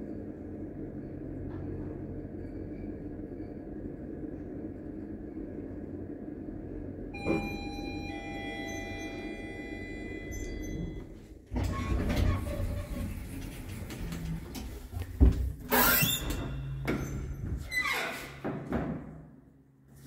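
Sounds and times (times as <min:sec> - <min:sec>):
sliding doors motor rumble: 0:00.2 - 0:17.7.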